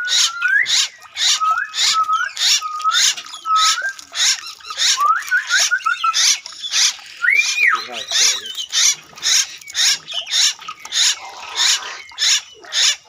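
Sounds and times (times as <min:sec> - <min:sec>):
rasping animal call: 0:00.0 - 0:13.0
wavering whistled call: 0:00.0 - 0:13.0.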